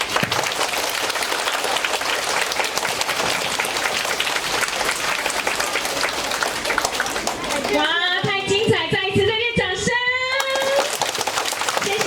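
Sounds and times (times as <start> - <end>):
audience applauding: 0.0 - 8.5, 10.3 - 12.0.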